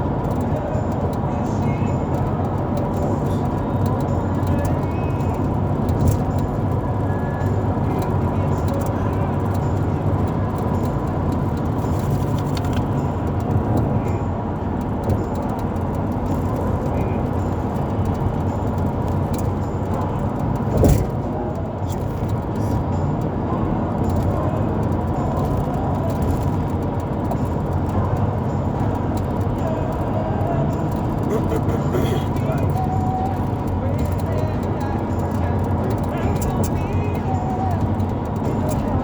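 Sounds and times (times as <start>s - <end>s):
vehicle road and engine rumble: 0.0s - 39.0s.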